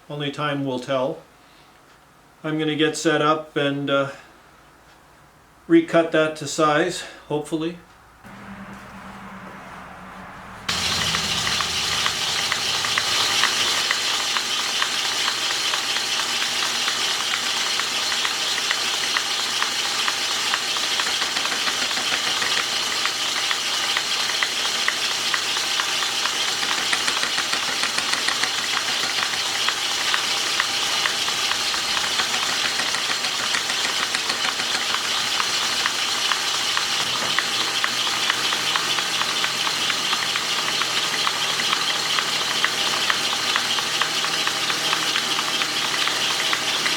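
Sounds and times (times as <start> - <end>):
machine cutting metal: 8.3 - 46.9.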